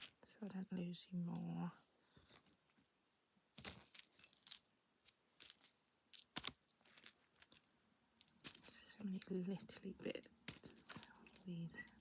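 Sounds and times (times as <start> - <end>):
jewellery beads clinking: 0.0 - 0.4, 2.3 - 12.0.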